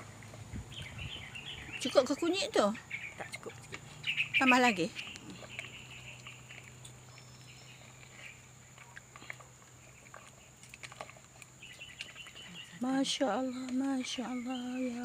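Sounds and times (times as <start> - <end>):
distant bird chirps: 0.6 - 10.6, 11.5 - 15.0.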